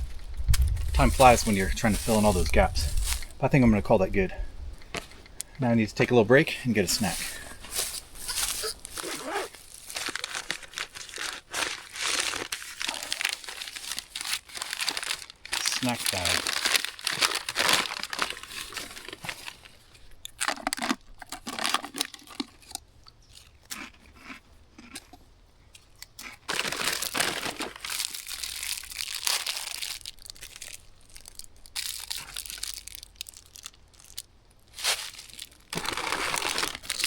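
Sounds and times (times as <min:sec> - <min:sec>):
snack bag crinkling: 0:00.0 - 0:03.4, 0:06.9 - 0:25.2, 0:25.8 - 0:37.0.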